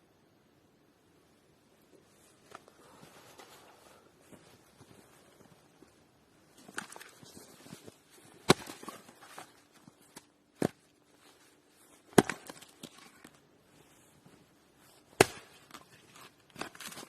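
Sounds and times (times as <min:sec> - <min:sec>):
rustling: 0:02.0 - 0:17.0.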